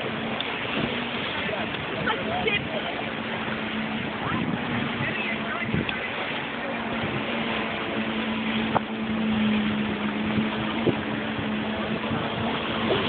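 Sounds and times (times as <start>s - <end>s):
jet ski engine drone: 0.0s - 13.0s
water wash: 0.0s - 13.0s
wind noise: 0.0s - 13.0s.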